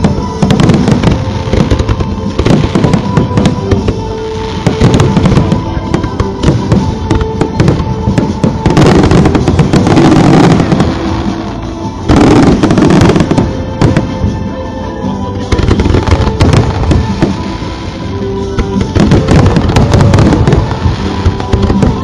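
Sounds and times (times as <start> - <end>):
fireworks cracks and booms: 0.0 - 14.4, 15.5 - 22.0.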